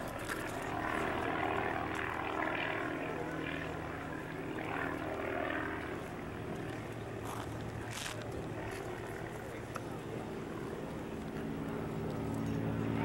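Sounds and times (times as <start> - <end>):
propeller aircraft engine running: 0.0 - 13.0.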